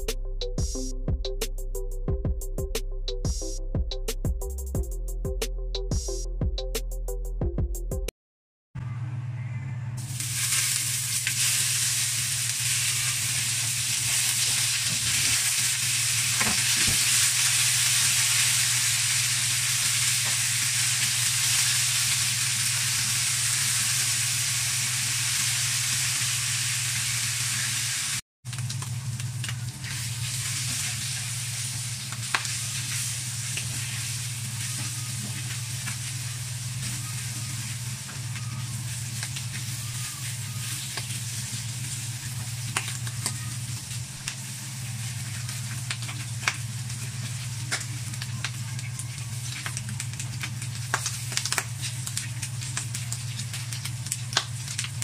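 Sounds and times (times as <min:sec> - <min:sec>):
pork sizzling in a wok: 0:10.0 - 0:55.0.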